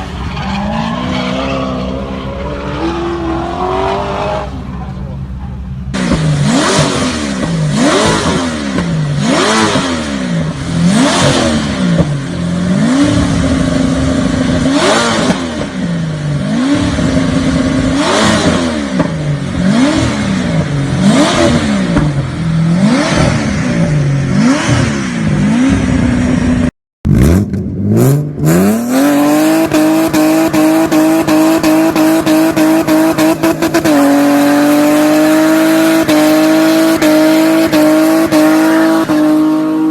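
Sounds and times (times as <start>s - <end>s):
car engine revving: 0.0s - 39.9s
engine holding high revs: 6.0s - 39.9s.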